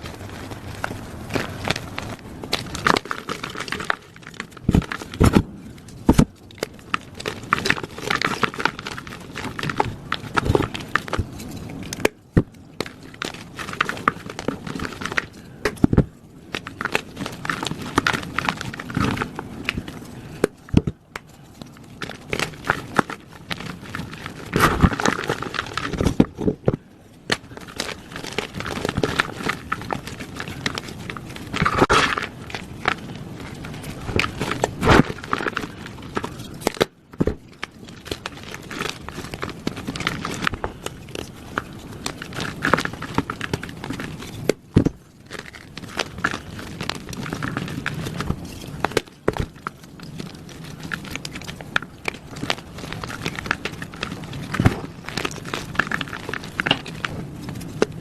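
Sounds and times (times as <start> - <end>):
chalk blocks being crushed: 0.0 - 58.0.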